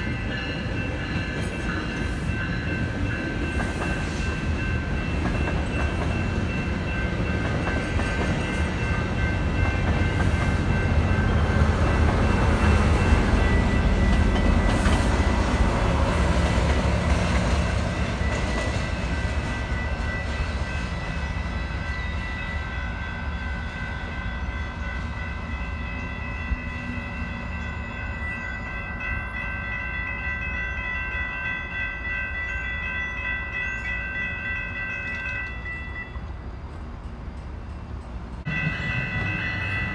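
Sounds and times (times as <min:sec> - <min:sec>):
crossing warning bells ringing: 0:00.0 - 0:39.9
train passing: 0:00.0 - 0:39.9.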